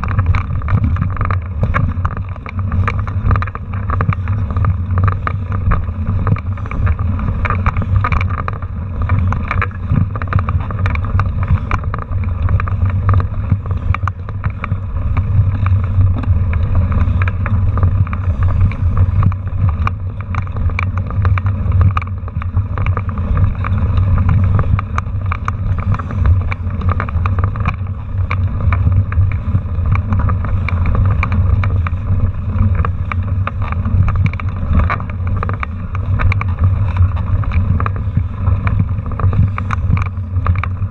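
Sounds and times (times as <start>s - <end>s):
bike rattling and knocks: 0.0s - 40.9s
low rumble: 0.0s - 40.9s
wind noise on microphone: 0.0s - 40.9s.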